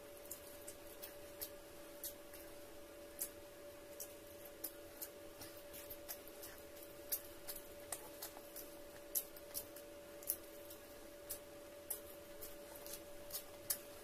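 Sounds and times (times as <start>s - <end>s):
faint steady hum: 0.0s - 14.0s
person chewing with wet clicks: 0.0s - 14.0s.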